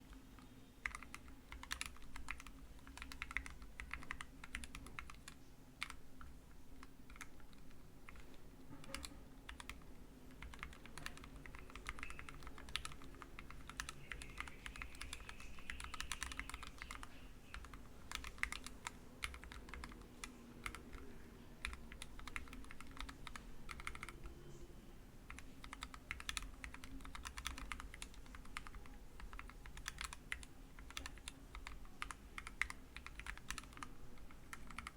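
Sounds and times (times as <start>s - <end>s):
keyboard typing: 0.0s - 24.6s, 25.2s - 34.9s.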